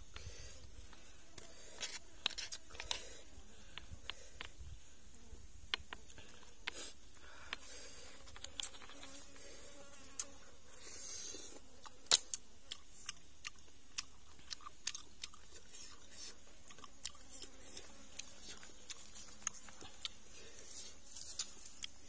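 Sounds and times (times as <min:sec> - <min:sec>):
person chewing: 0:00.1 - 0:04.5, 0:05.7 - 0:09.2, 0:10.1 - 0:10.4, 0:11.3 - 0:22.0.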